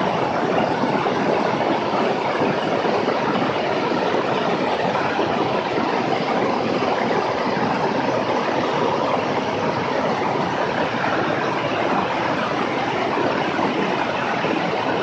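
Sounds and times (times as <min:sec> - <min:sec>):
airplane engine and propeller roar: 0:00.0 - 0:15.0
wind buffeting microphone: 0:00.0 - 0:15.0.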